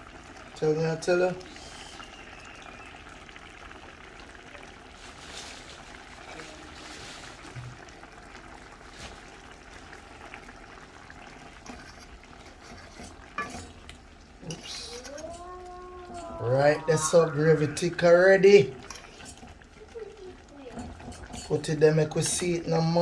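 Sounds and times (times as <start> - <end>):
stew simmering and bubbling: 0.0 - 23.0.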